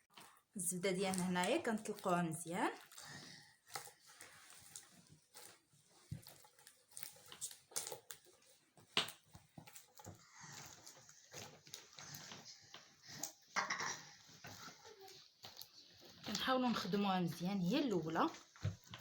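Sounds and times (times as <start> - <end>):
butter squelching in a bowl: 0.0 - 19.0.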